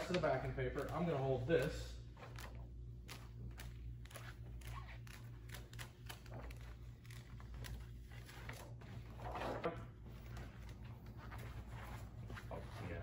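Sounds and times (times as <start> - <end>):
steady low hum: 0.0 - 13.0
vinyl and paper rustling: 0.0 - 13.0.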